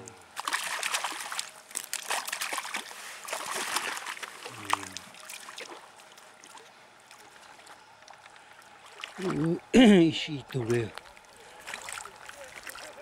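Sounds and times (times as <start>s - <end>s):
faint water trickle: 0.0s - 13.0s
water splashing and sloshing: 0.0s - 13.0s.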